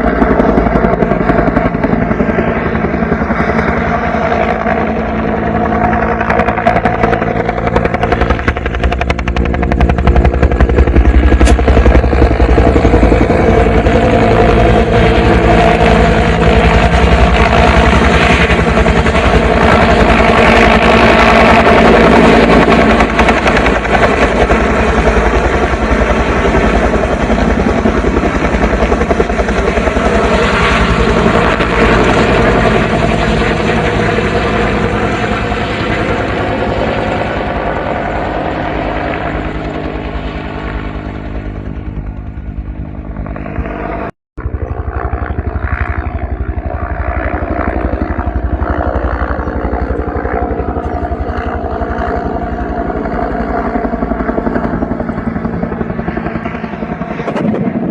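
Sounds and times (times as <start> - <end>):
helicopter engine whine: 0.0 - 57.9
helicopter rotor beating: 0.0 - 57.9.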